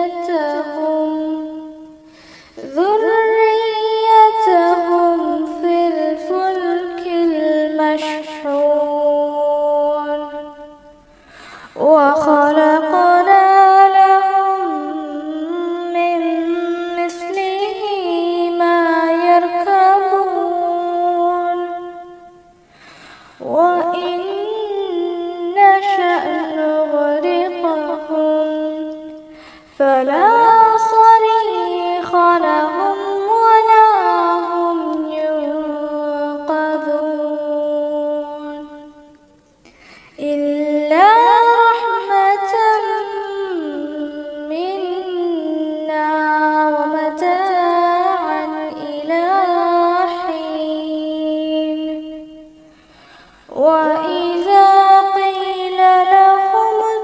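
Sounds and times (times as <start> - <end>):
woman chanting recitation: 0.0 - 22.6, 23.4 - 39.2, 40.1 - 52.7, 53.4 - 57.0.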